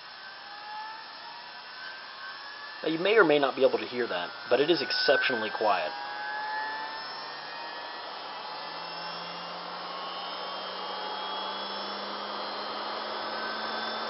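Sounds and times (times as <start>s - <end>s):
centrifuge spinning up: 0.0s - 14.0s.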